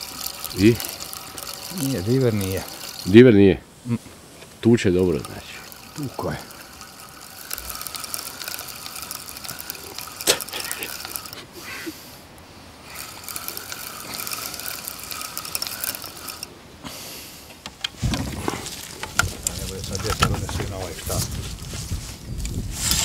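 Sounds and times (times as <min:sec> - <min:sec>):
fishing reel ratcheting: 0:00.0 - 0:21.7, 0:22.4 - 0:23.0.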